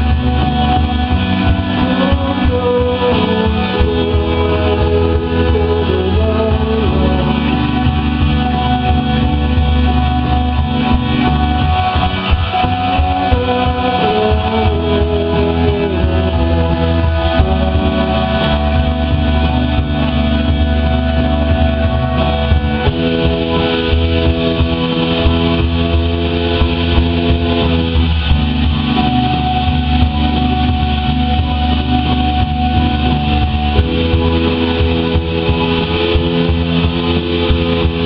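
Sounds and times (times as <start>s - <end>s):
rock band playing loud chords: 0.0s - 38.0s.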